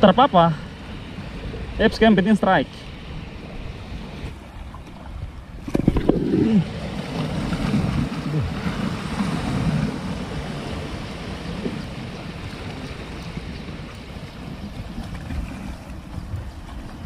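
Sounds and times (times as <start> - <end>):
waves washing over rocks: 0.0 - 17.0
wind buffeting microphone: 0.7 - 17.0.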